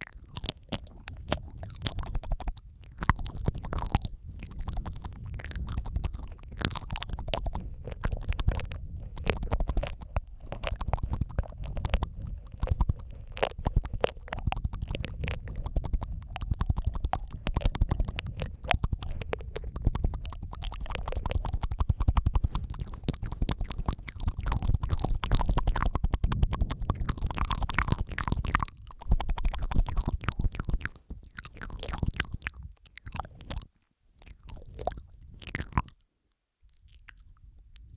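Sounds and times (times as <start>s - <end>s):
wet mouth clicks and smacks: 0.0s - 37.9s.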